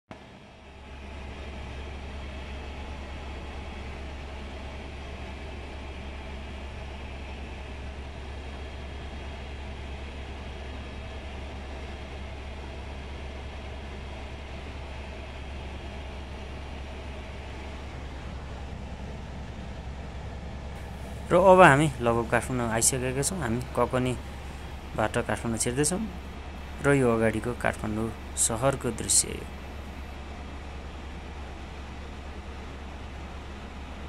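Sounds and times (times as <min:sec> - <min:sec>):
helicopter rotor and turbine drone: 0:00.2 - 0:34.0.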